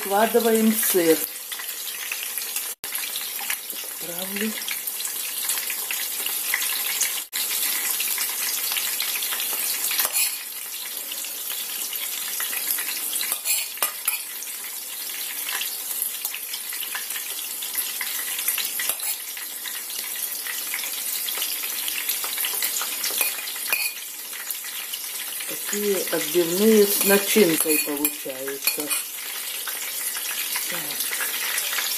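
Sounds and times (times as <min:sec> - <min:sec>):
chicken sizzling in oil: 0:00.0 - 0:31.9.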